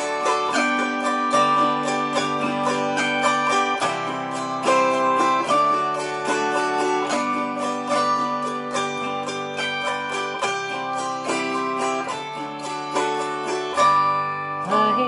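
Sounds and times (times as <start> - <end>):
autoharp strummed: 0.0 - 15.0.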